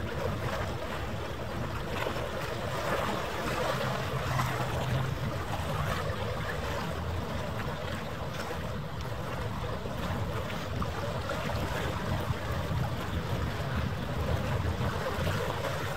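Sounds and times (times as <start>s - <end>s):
water noise: 0.0s - 15.9s
wind: 0.0s - 15.9s.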